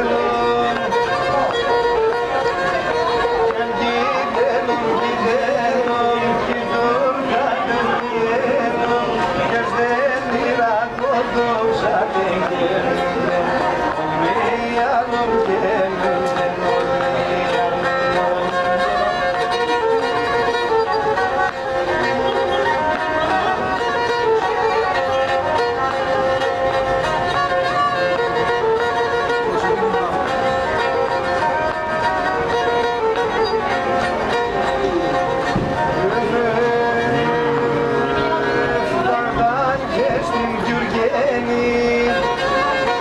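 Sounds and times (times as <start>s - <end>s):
bowed fiddle melody: 0.0s - 43.0s.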